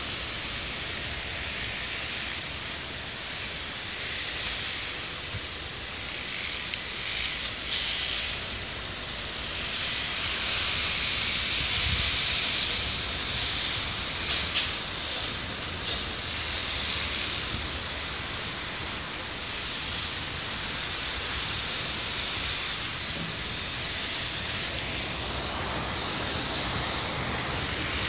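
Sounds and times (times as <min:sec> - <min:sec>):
tyres hissing on wet road: 0:00.0 - 0:28.0.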